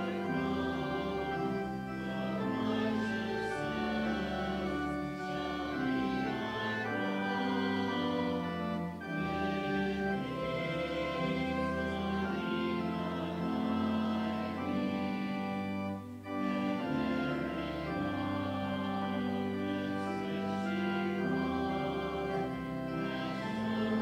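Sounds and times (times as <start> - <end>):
church organ playing a hymn: 0.0 - 24.0.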